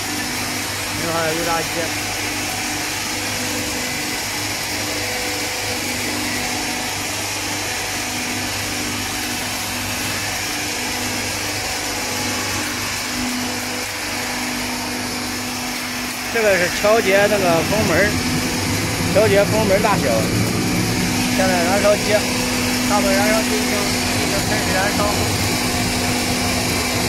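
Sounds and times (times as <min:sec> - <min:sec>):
frying machine hum and hiss: 0:00.0 - 0:27.0.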